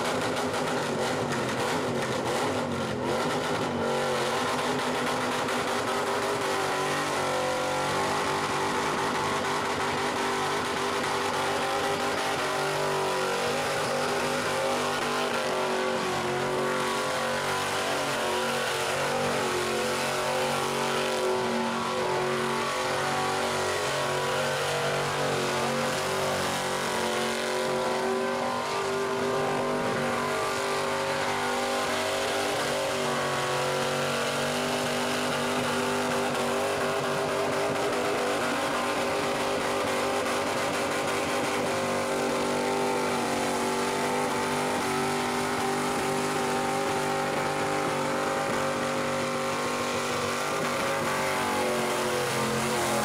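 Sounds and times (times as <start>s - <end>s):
car engine at high revs: 0.0s - 53.0s.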